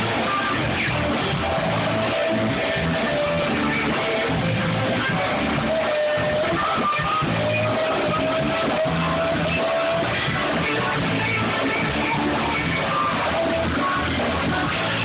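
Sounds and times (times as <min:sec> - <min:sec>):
steady bass line: 0:00.0 - 0:15.0.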